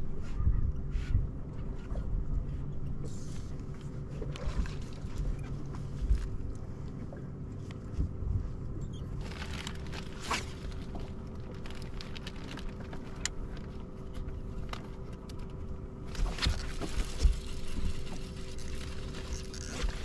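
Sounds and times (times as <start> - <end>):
trolling motor humming: 1.4 - 20.0.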